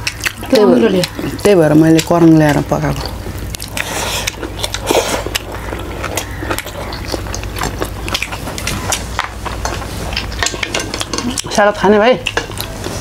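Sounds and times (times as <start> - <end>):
chewing and biting food: 0.0 - 13.0
steady low hum: 0.0 - 13.0.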